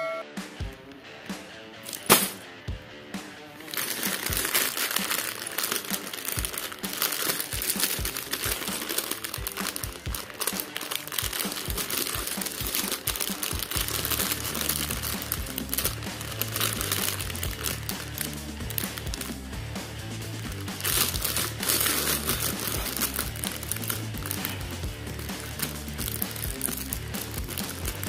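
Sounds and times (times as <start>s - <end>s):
plastic bag crinkling: 1.9s - 2.4s, 3.6s - 19.5s, 20.2s - 28.0s
plastic bricks shifting: 3.6s - 19.3s, 20.4s - 28.0s.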